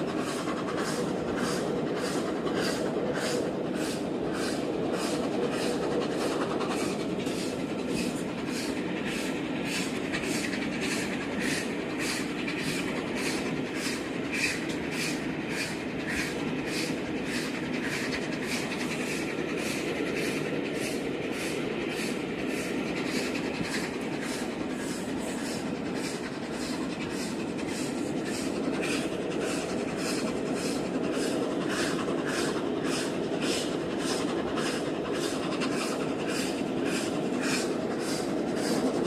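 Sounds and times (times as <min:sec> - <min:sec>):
steam locomotive rhythmic beat: 0:00.0 - 0:39.0
train wheels on track: 0:00.0 - 0:39.0.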